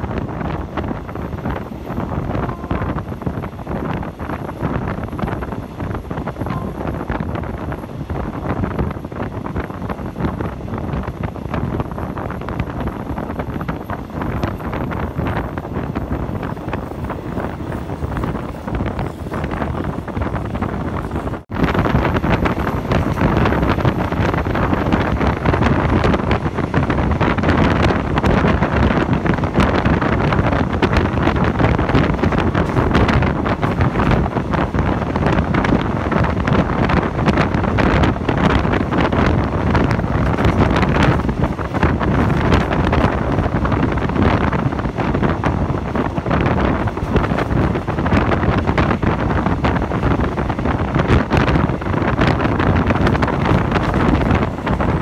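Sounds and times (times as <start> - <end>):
train rumbling on rails: 0.0 - 55.0
wind buffeting microphone: 0.0 - 55.0.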